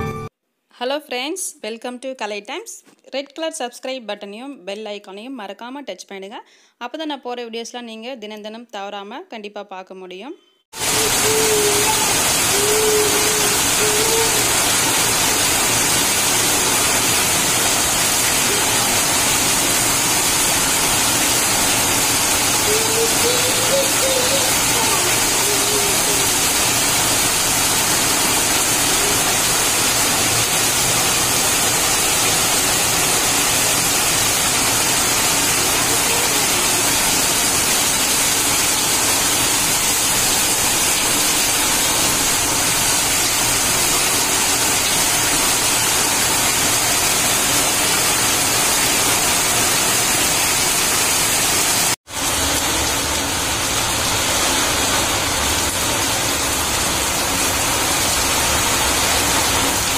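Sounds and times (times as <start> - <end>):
heavy rain splashing on water: 10.8 - 59.9.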